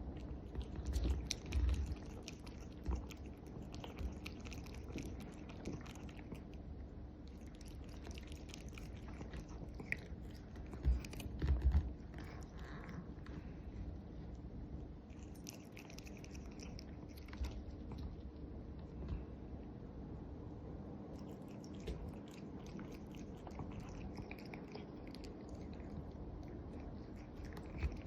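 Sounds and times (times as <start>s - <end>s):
cat lapping water: 0.0s - 13.6s, 15.1s - 18.2s, 21.1s - 28.0s.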